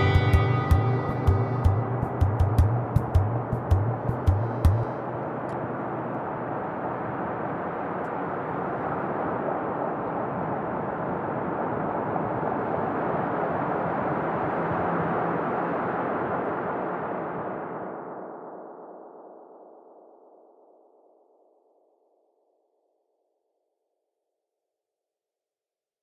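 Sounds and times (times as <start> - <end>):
steady rushing noise: 0.0 - 21.9.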